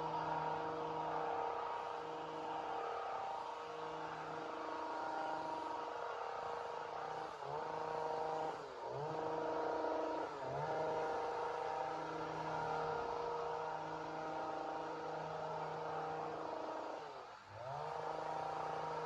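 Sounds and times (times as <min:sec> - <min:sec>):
chainsaw running at high revs: 0:00.0 - 0:19.0.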